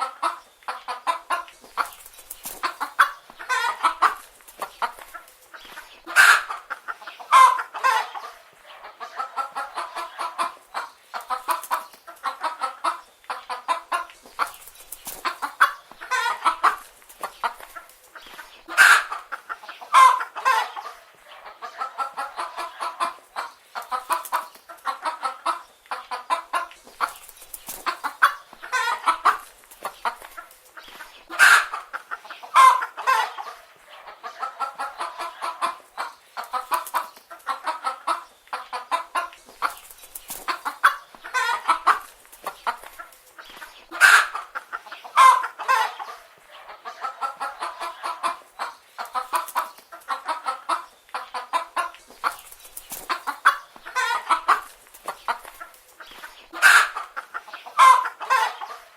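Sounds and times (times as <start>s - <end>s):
hens clucking: 0.0s - 58.9s
hens squawking: 0.0s - 58.9s.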